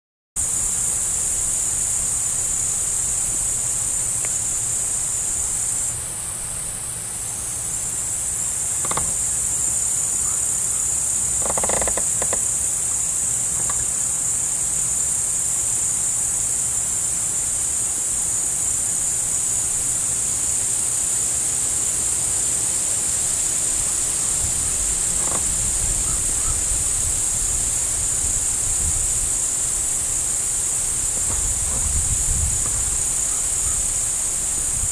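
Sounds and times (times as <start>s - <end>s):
crickets chirping: 0.4s - 34.9s.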